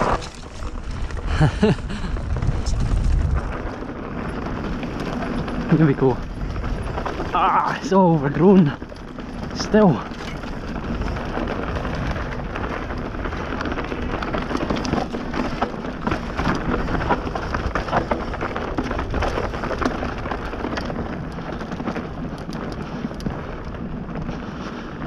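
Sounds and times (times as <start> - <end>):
bike clattering over bumps: 0.0 - 25.0
bike tyres rushing on dirt: 0.0 - 25.0.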